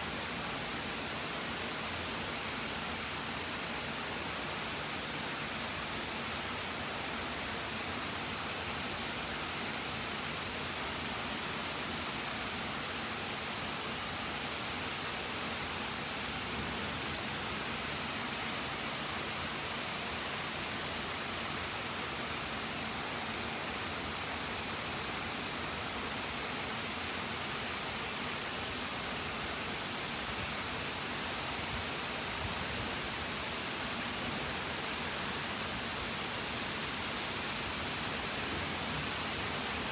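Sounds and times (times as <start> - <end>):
rain falling on wet pavement: 0.0 - 39.9.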